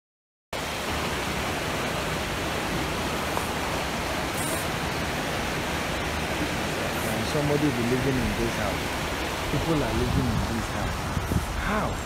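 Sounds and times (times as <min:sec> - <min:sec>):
floodwater rushing: 0:00.6 - 0:12.0.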